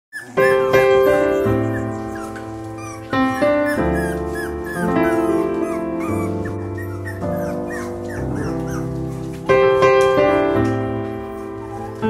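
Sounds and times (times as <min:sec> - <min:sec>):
puppies whimpering and yipping: 0:00.1 - 0:12.0
piano music: 0:00.2 - 0:12.0.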